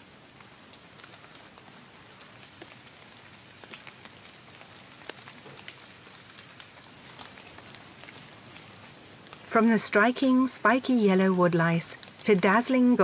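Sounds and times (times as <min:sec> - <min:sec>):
light rain hiss: 0:00.0 - 0:13.0.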